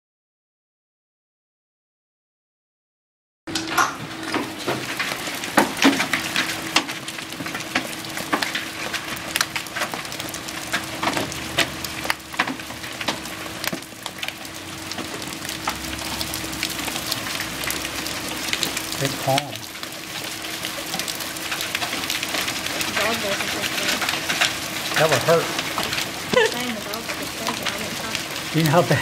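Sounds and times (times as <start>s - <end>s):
heavy rain hiss: 4.6s - 29.0s.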